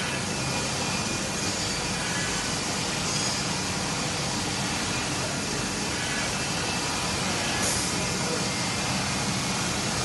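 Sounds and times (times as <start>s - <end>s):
machinery hum: 0.0s - 10.0s
ventilation hum: 0.0s - 10.0s.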